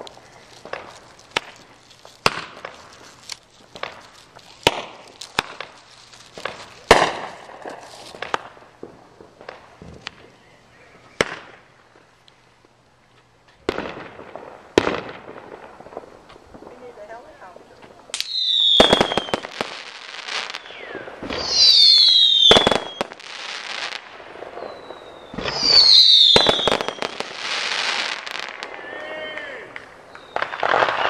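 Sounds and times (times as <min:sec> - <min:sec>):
fireworks bangs: 0:00.0 - 0:10.4, 0:11.1 - 0:12.1, 0:13.6 - 0:31.0
small firework pops: 0:00.0 - 0:10.4, 0:11.2 - 0:11.6, 0:12.6 - 0:31.0.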